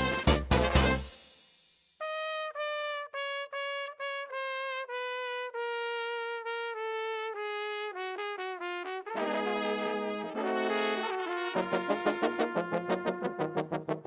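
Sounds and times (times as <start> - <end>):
solo trumpet slow melody: 0.0 - 1.2, 2.0 - 14.0.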